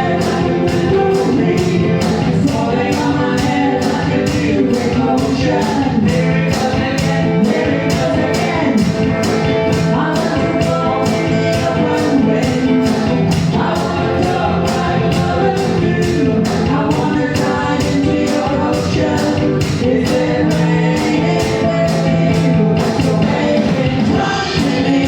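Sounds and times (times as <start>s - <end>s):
live band playing pop-rock: 0.0s - 25.0s
person singing: 0.0s - 25.0s.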